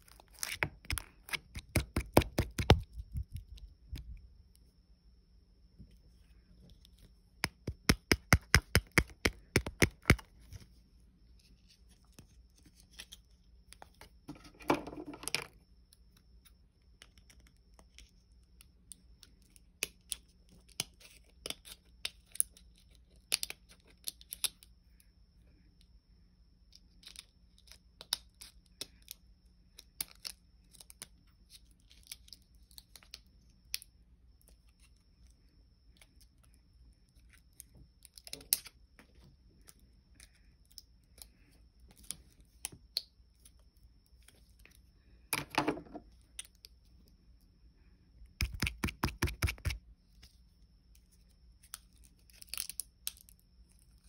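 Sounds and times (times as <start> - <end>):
faint high-pitched whine: 0.0 - 54.0.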